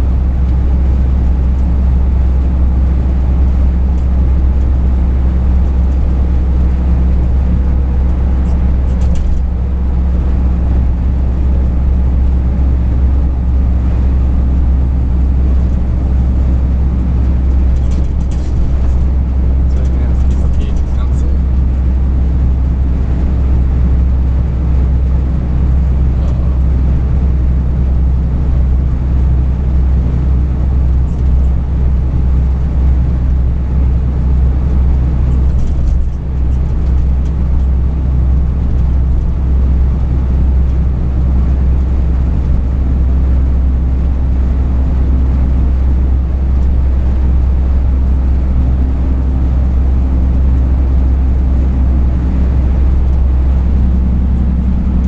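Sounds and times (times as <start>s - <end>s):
road noise: 0.0s - 55.0s
truck engine hum: 0.0s - 55.0s.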